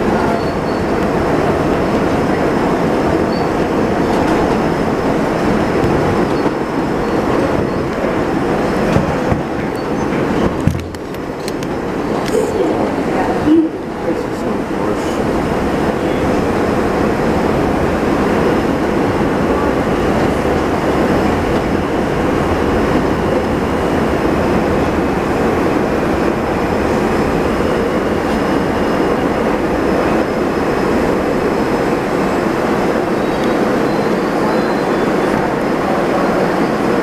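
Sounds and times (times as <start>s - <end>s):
wheels rumbling and rattling on rails: 0.0s - 37.0s.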